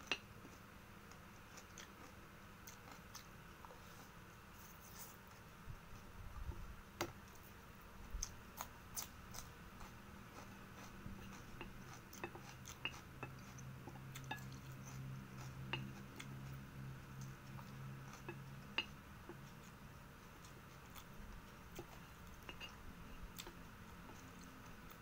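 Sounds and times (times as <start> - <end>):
chewing rice: 0.0 - 6.1, 7.3 - 25.0
low steady hum: 0.0 - 25.0.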